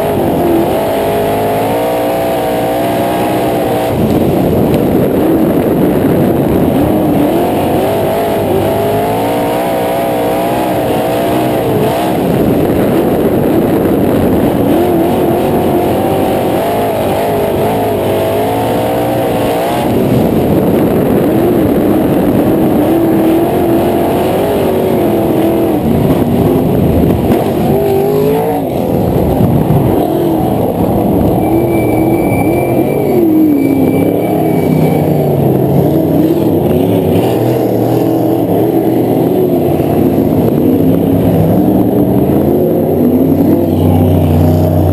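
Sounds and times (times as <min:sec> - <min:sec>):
race car engine running loud: 0:00.0 - 0:44.9.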